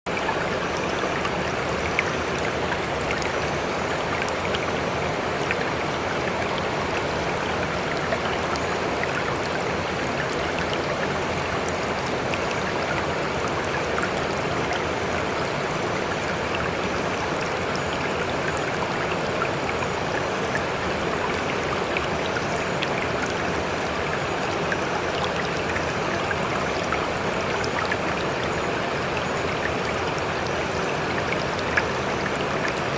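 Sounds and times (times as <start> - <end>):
stream water rushing: 0.1 - 32.9.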